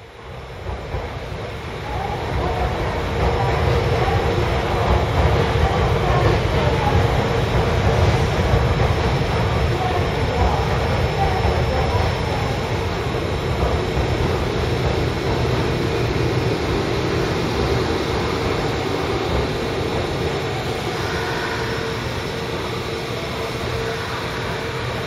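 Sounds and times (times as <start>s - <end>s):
electric train rumble and hum: 0.0s - 25.0s.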